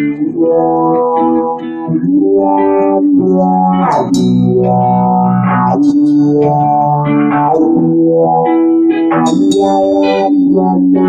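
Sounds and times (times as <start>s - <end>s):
bass guitar: 0.0s - 11.0s
rock guitar chords: 0.0s - 11.0s.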